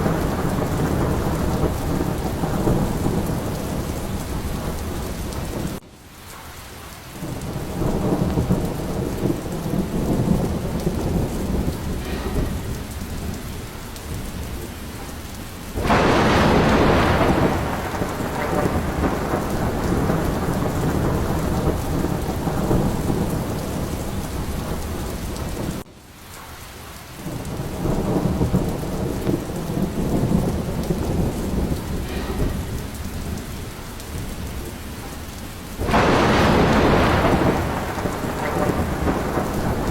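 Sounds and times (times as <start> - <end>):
loud thunderclap: 0.0 - 5.8, 7.2 - 25.9, 27.2 - 39.9
rolling thunder: 0.0 - 6.4, 7.1 - 25.9, 27.2 - 39.9
heavy rain: 0.0 - 39.9.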